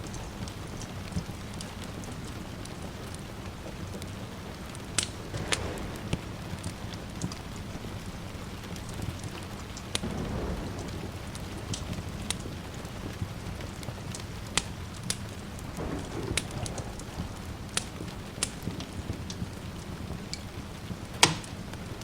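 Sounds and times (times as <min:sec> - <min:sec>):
distant thunder: 0:00.0 - 0:21.7
steady rain: 0:00.0 - 0:22.0
wood fire crackling and popping: 0:00.0 - 0:22.0.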